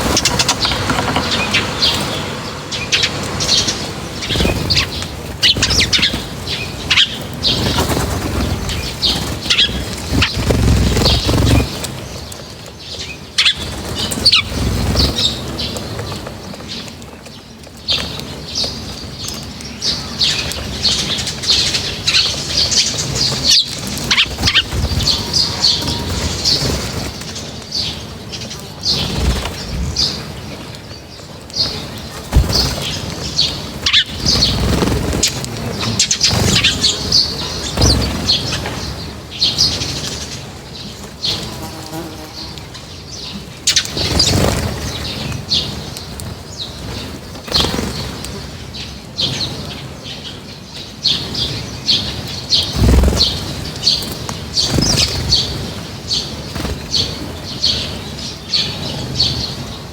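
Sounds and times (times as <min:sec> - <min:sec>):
wings fluttering: 0:00.0 - 0:49.6, 0:51.1 - 0:59.3
birds chirping: 0:00.0 - 0:59.9.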